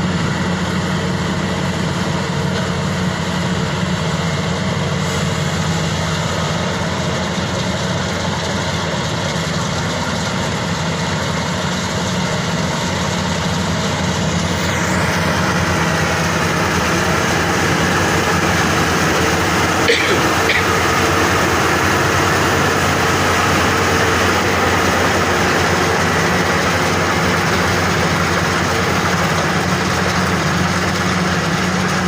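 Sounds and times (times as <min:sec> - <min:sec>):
combine harvester engine hum: 0:00.0 - 0:32.0.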